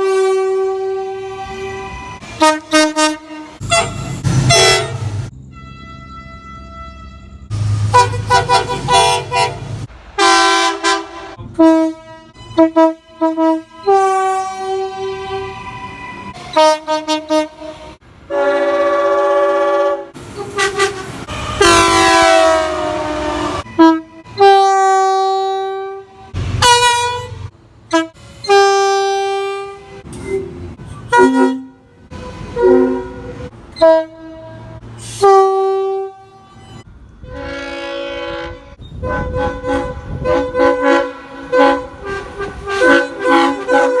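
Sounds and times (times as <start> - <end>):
train air horn blasts: 0.0 - 44.0.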